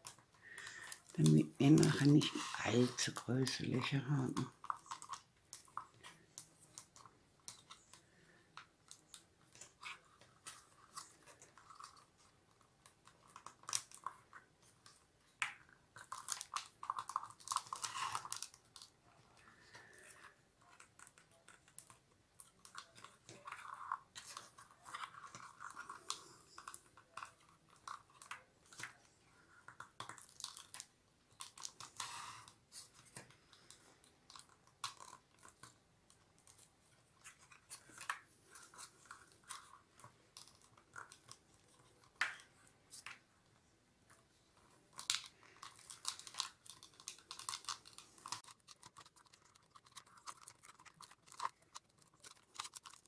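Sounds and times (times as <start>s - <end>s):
paper crackling and clicking: 0.0s - 43.2s, 44.1s - 53.0s.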